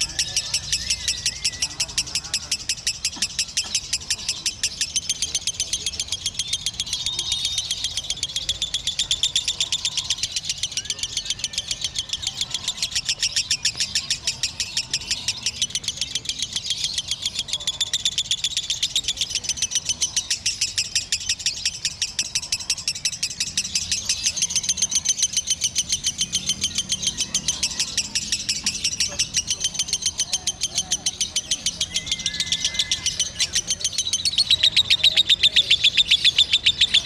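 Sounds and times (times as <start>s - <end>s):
lovebird high-pitched chatter: 0.0s - 37.0s.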